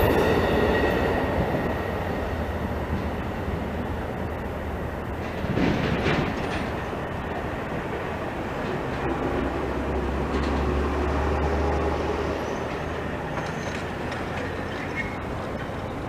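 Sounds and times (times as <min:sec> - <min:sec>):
train passing with heavy rumble: 0:00.0 - 0:16.0.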